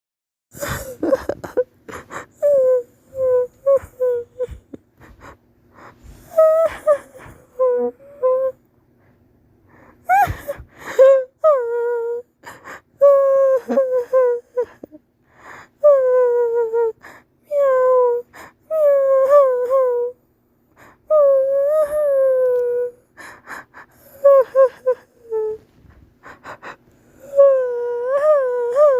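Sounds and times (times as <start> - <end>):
cartoon voice sobbing: 0.5 - 5.4, 6.2 - 8.6, 10.0 - 15.0, 15.7 - 20.2, 21.0 - 25.6, 26.3 - 28.9
person crying and wailing: 0.5 - 8.6, 10.0 - 15.0, 15.8 - 20.2, 21.1 - 25.6, 26.2 - 28.9
whimper: 0.5 - 8.6, 9.7 - 28.9.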